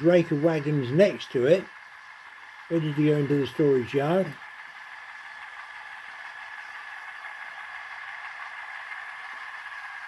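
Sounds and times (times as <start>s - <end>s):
thin model engine sound: 0.0s - 10.0s.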